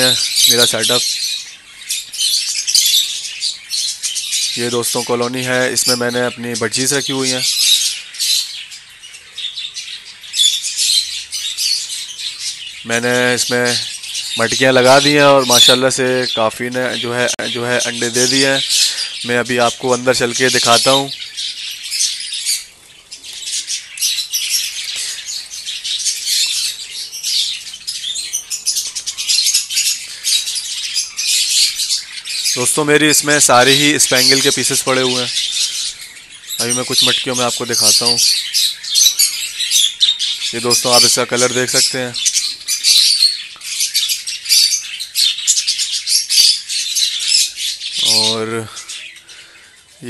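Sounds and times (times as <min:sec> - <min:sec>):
budgerigars chirping and chattering: 0:00.0 - 0:50.0.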